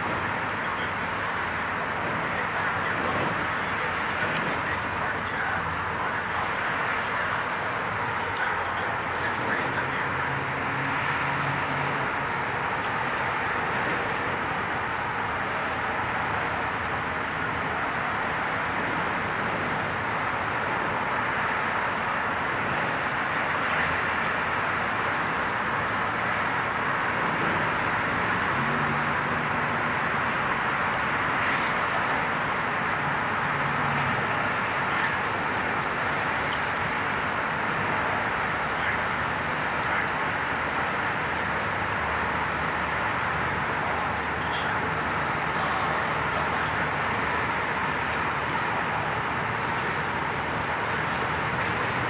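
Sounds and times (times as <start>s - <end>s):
road traffic roar: 0.0s - 52.0s.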